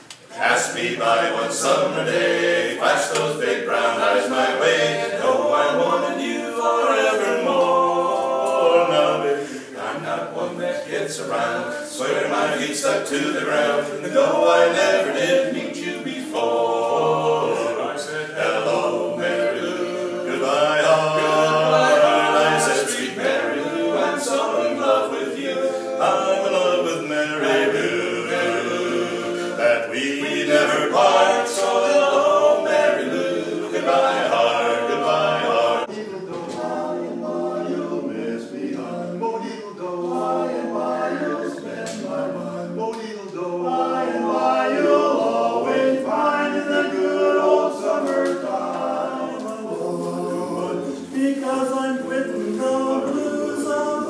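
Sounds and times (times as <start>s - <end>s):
quartet singing a cappella: 0.0s - 54.0s.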